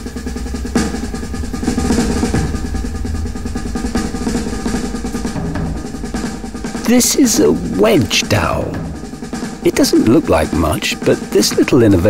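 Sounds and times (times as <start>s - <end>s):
rapid dense drumming: 0.0s - 12.0s
steady low bass: 0.0s - 12.0s.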